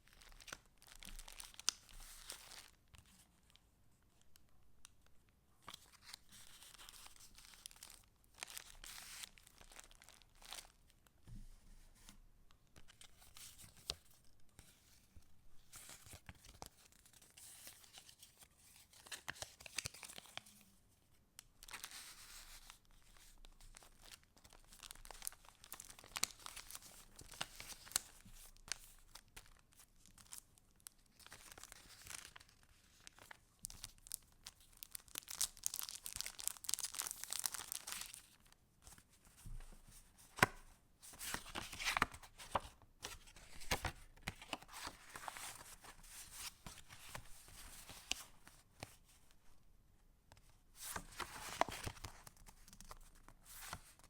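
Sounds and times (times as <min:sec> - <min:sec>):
paper pages rustling and crinkling: 0:05.6 - 0:12.2, 0:12.8 - 0:20.6, 0:21.6 - 0:30.4, 0:31.1 - 0:49.4, 0:50.3 - 0:54.0.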